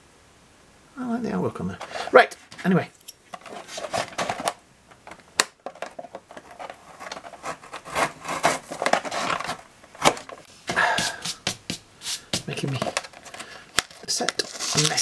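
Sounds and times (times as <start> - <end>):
plastic and card crackling: 1.8 - 15.0.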